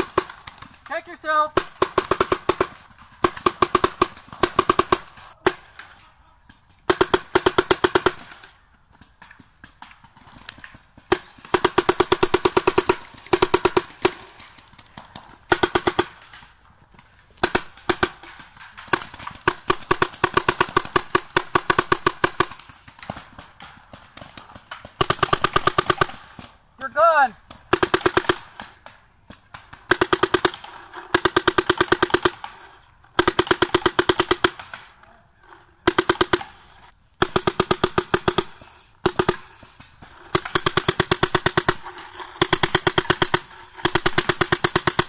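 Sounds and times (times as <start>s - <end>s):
paintball marker rapid firing: 1.6s - 5.9s, 6.9s - 26.6s, 27.4s - 34.9s, 35.5s - 45.0s.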